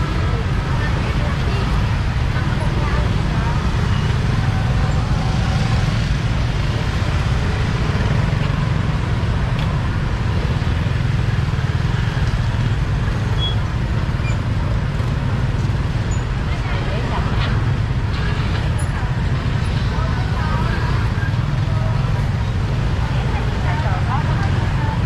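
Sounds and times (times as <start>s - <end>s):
motor scooter rumbling: 0.0s - 25.0s
other scooters: 0.0s - 25.0s
street noise: 0.0s - 25.0s.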